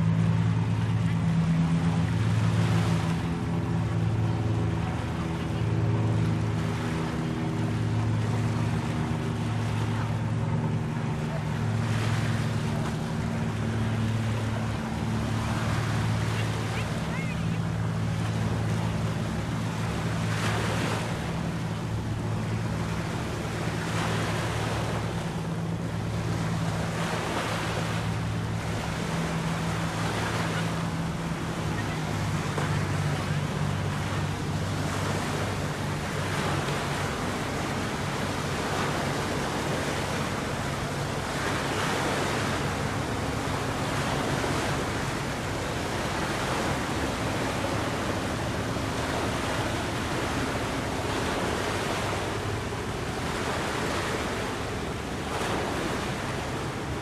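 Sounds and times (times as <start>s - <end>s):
waves washing on shore: 0.0s - 57.0s.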